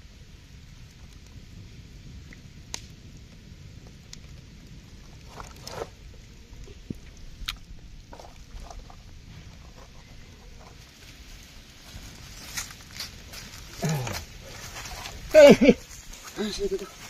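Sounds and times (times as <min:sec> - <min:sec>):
palm leaf crackling: 0:02.2 - 0:17.0.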